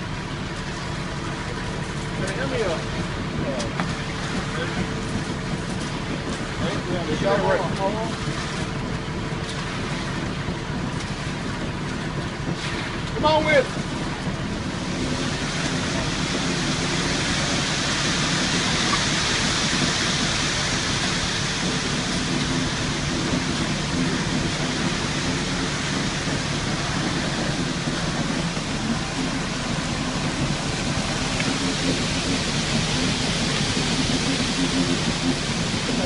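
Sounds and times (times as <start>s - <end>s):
truck engine drone: 0.0s - 36.0s
wet concrete pouring down chute: 0.0s - 36.0s.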